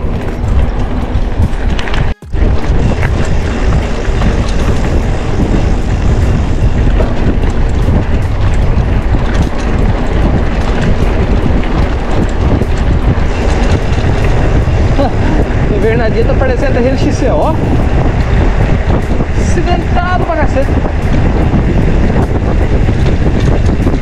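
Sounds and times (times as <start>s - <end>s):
bike rattling and clattering: 0.0s - 24.0s
bike tyres rolling on dirt: 0.0s - 24.0s
wind rumble on microphone: 0.0s - 24.0s.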